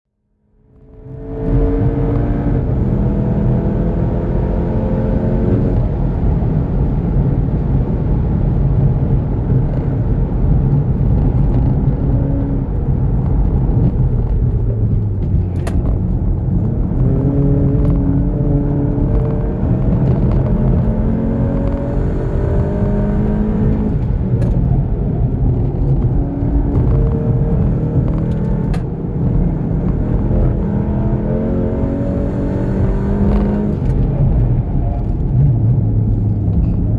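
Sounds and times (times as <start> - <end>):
road rumble: 0.4 - 36.9
car engine revving through gears: 0.8 - 36.9.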